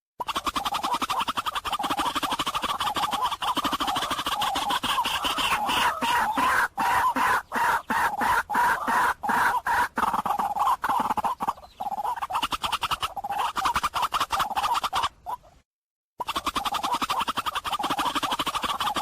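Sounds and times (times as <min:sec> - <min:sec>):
waterhen croaking calls: 0:00.2 - 0:15.6, 0:16.2 - 0:19.0.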